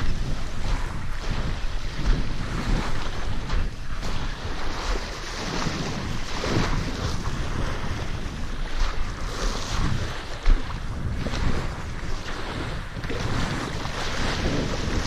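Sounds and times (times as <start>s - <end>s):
waves washing on pebbles: 0.0s - 15.0s
wind buffeting microphone: 0.0s - 15.0s.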